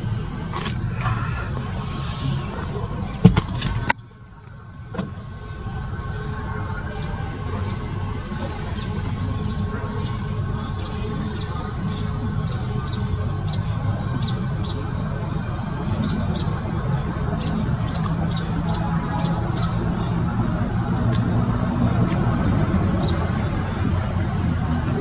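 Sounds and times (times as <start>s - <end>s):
car engine rumbling: 0.0s - 3.9s, 5.0s - 25.0s.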